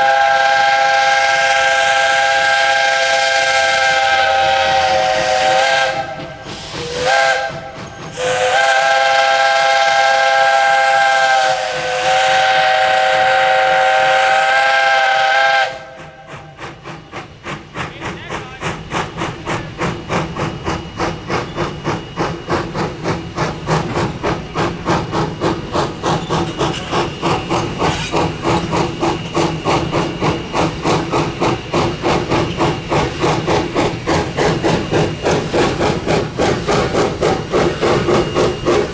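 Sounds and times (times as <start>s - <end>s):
steam locomotive whistle: 0.0s - 16.6s, 19.8s - 38.9s
steam engine exhaust chuffs: 0.0s - 38.9s.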